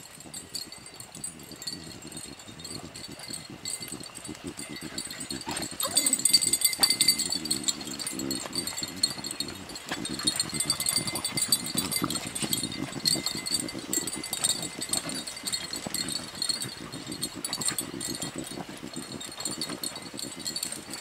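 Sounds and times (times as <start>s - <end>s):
dogs sniffing in dry leaves: 0.9s - 19.6s.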